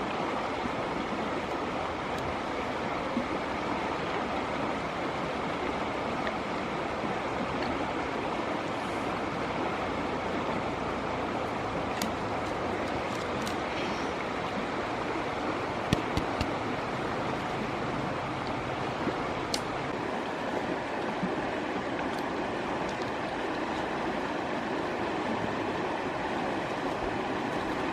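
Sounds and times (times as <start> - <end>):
river water rushing: 0.0 - 27.9.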